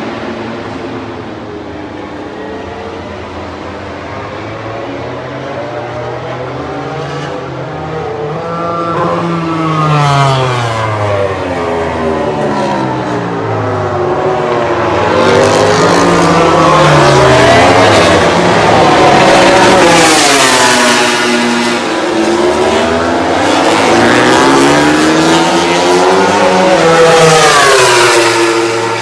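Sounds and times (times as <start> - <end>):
racing motorcycles passing: 0.0 - 29.0.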